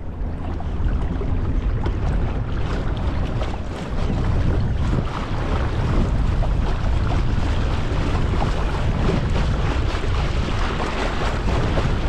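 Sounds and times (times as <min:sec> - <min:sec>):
choppy water slapping kayak: 0:00.0 - 0:12.0
wind buffeting microphone: 0:00.0 - 0:12.0.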